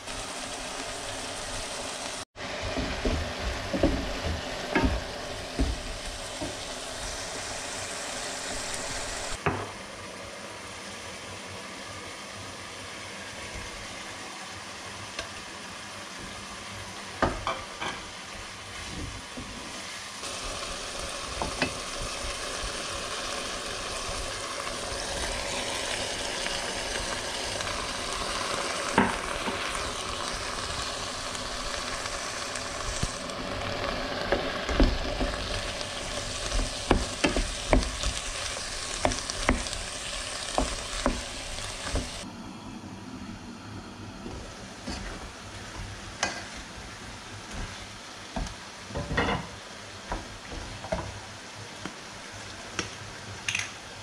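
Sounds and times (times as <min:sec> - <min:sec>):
meat and vegetables sizzling: 0:00.0 - 0:42.3, 0:44.3 - 0:54.0.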